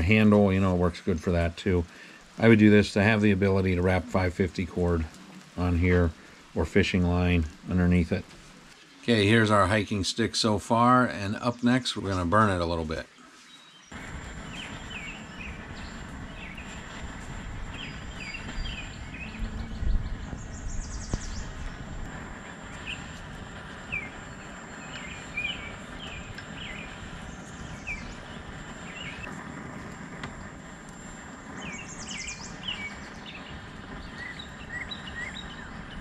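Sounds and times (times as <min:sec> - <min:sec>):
propane torch rushing: 0:00.0 - 0:13.0, 0:13.9 - 0:36.0
birds chirping: 0:00.0 - 0:36.0.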